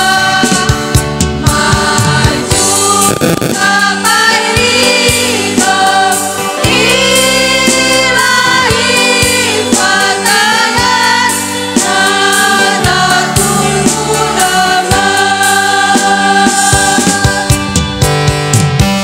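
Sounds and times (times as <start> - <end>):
women's choir singing: 0.0 - 17.7
electronic keyboard with beat: 0.0 - 19.0.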